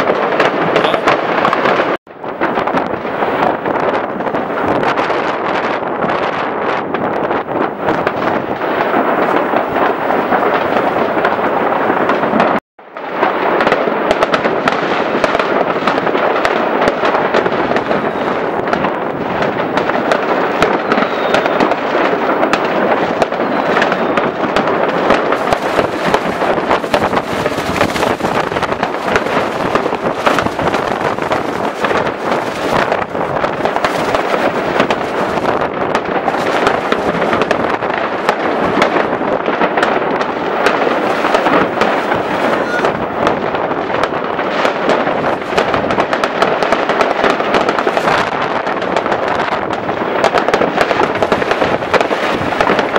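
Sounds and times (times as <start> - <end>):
fireworks banging: 0.0 - 52.9
fireworks crackling: 0.0 - 52.9.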